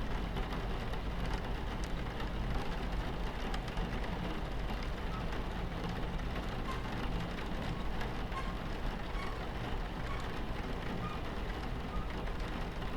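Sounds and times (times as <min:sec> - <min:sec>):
rain on window: 0:00.0 - 0:12.9
train rumble inside carriage: 0:00.0 - 0:12.9.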